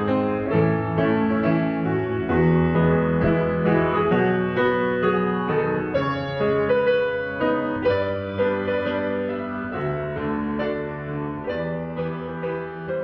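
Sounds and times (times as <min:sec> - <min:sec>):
slow grand piano piece: 0:00.0 - 0:13.0.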